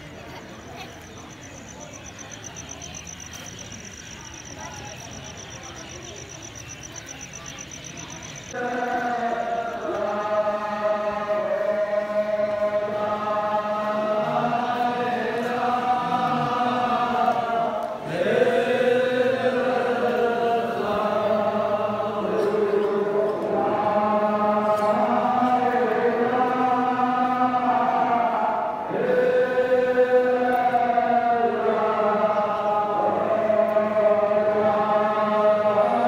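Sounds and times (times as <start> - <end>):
voices chanting devotional verses: 0.0 - 36.0.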